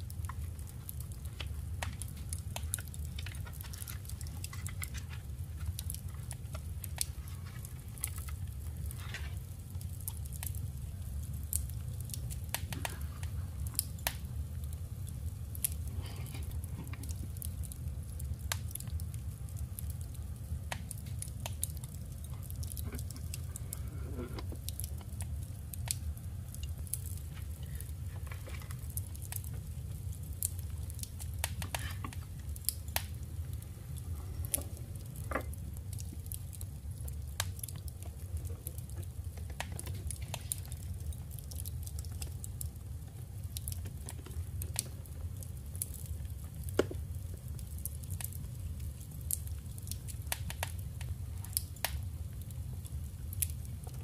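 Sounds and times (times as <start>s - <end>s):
steady low hum: 0.0s - 45.8s.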